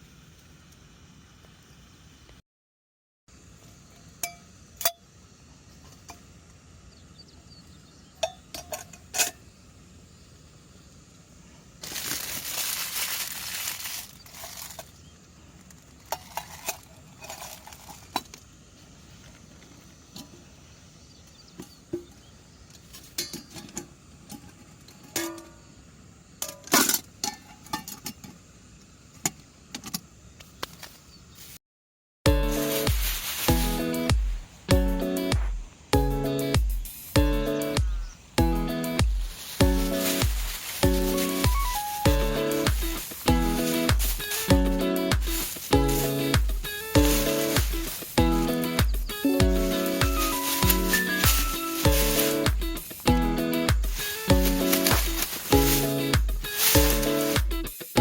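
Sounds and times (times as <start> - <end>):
steady hiss: 0.0 - 2.4, 3.3 - 31.6, 32.3 - 58.0.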